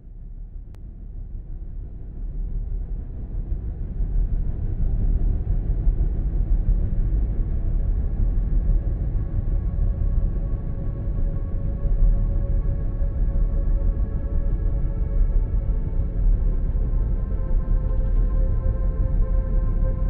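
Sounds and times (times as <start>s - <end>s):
low rumbling drone: 1.4s - 20.0s.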